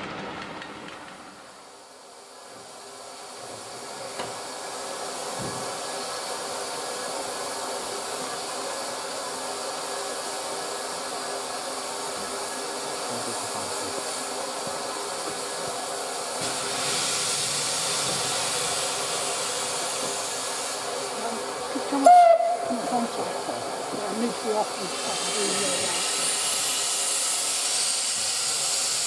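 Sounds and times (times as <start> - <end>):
steam locomotive hissing steam: 1.3 - 29.0.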